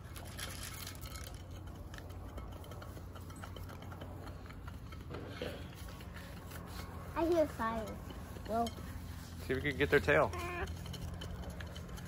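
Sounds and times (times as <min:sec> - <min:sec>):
hens pecking grain: 0:00.0 - 0:12.0.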